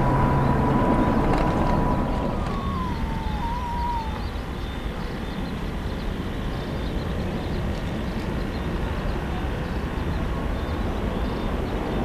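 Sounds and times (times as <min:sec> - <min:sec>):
jet engines at takeoff: 0:00.0 - 0:12.0.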